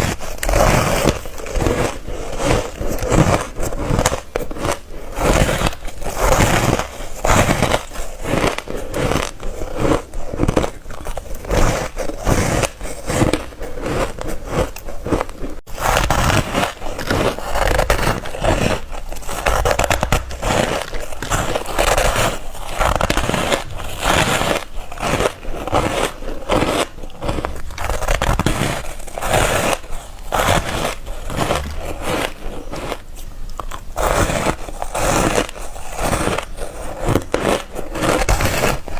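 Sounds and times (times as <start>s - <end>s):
teeth crunching ice: 0.4s - 38.8s.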